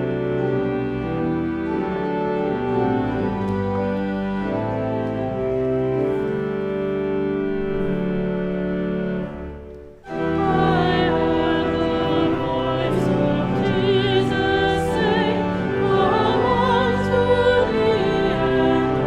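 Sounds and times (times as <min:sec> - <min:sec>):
organ chord: 0:00.0 - 0:19.0.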